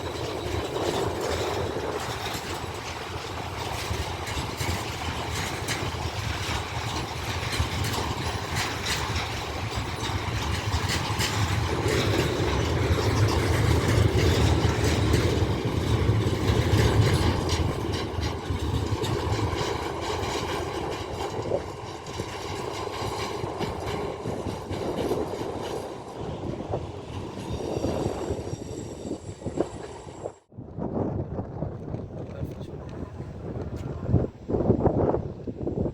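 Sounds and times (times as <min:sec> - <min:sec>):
train wheels clicking over rail joints: 0:00.0 - 0:30.3.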